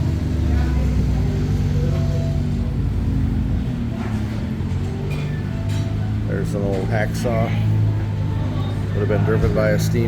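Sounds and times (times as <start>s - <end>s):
engine running with low drone: 0.0s - 10.0s.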